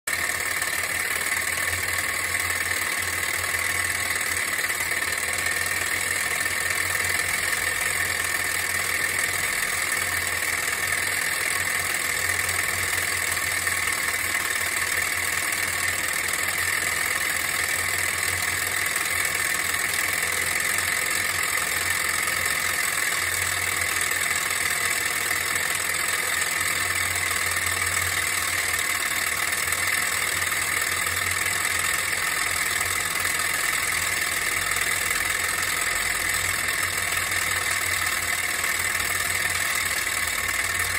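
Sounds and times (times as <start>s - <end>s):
toy steam engine running: 0.1s - 40.9s.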